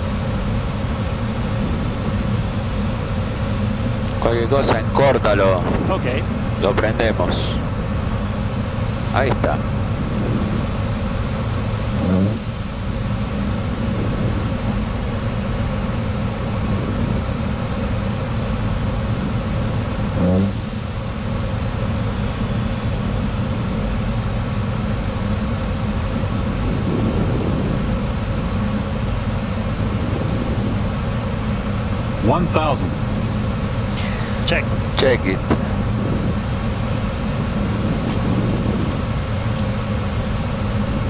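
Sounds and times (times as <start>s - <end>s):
engine and equipment hum: 0.0s - 41.0s
rushing airflow: 0.0s - 41.0s.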